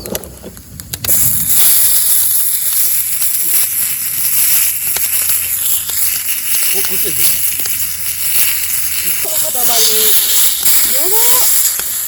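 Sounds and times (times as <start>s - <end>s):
meat sizzling on griddle: 1.0s - 12.0s.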